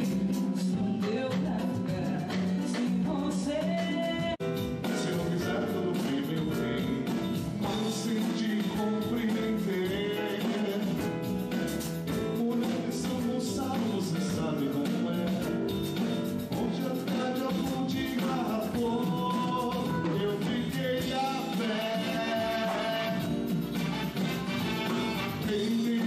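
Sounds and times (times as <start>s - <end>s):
dance music with singer: 0.0s - 26.0s.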